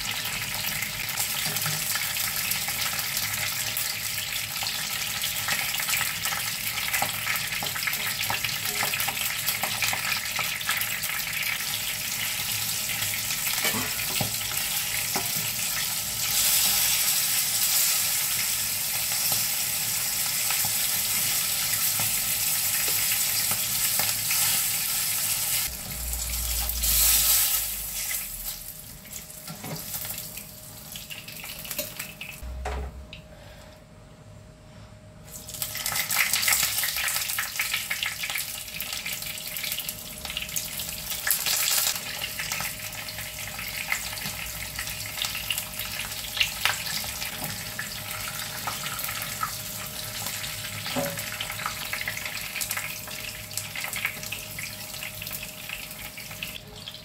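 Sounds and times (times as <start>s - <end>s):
oil sizzling in a frying pan: 0.0s - 32.4s, 35.3s - 57.0s.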